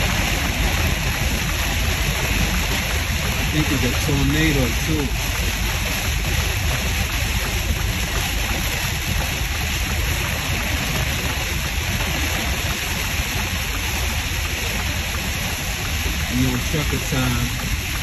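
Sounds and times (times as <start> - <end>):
heavy rain on windshield: 0.0 - 18.0
truck rumbling: 0.0 - 18.0
tyres on wet road: 0.0 - 18.0.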